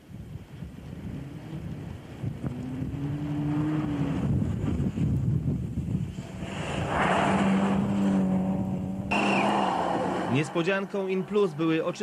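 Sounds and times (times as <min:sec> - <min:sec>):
wind on microphone: 0:00.0 - 0:10.3
rally car engine rumble: 0:00.7 - 0:11.4.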